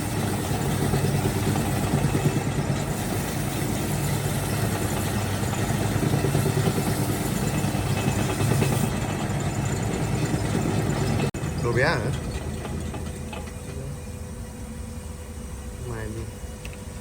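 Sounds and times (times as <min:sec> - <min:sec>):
wood lathe motor humming: 0:00.0 - 0:13.9.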